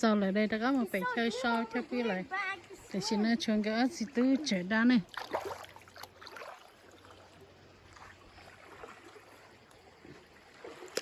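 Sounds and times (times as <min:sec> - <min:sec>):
water lapping and sloshing: 0:00.0 - 0:11.0.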